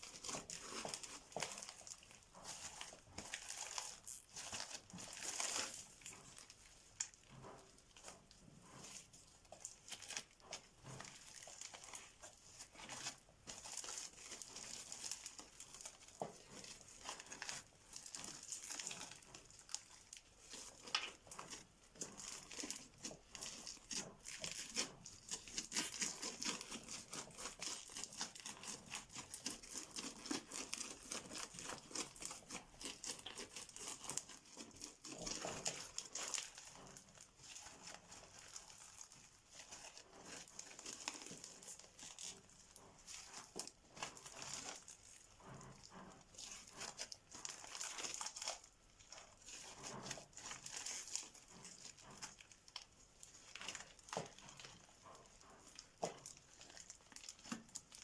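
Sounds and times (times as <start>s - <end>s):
crunchy slime crackling: 0.0s - 7.3s, 8.0s - 58.0s.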